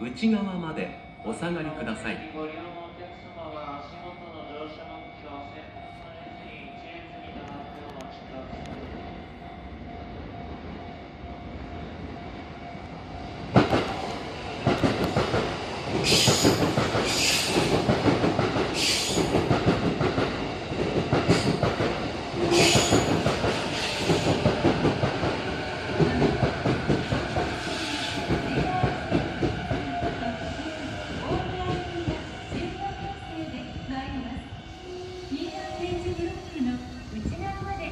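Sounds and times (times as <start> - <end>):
electric train arriving: 0.0 - 37.9.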